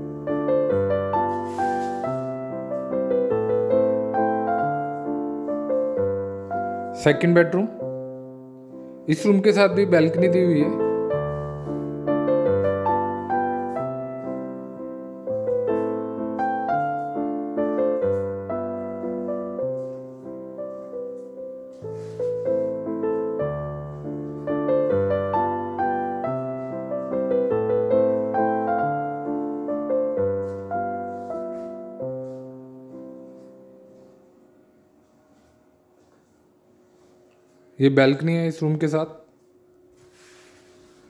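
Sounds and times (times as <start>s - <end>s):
gentle piano music: 0.0s - 39.1s.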